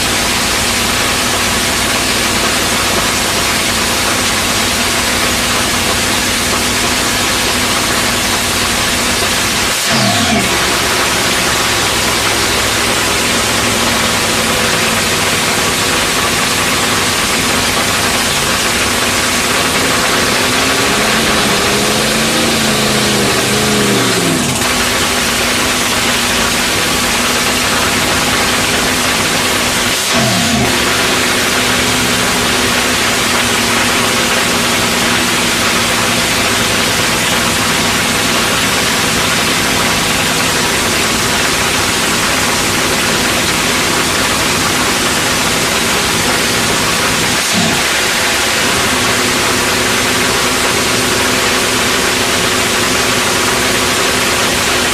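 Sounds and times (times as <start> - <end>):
dragster engine running loudly: 0.0 - 54.9.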